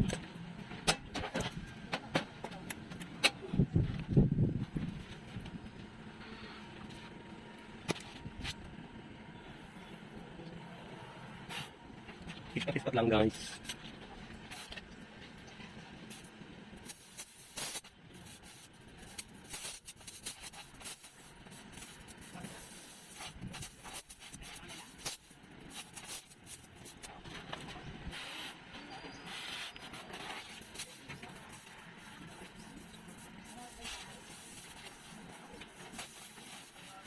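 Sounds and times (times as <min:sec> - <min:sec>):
arc welder crackling: 0:00.0 - 0:37.0.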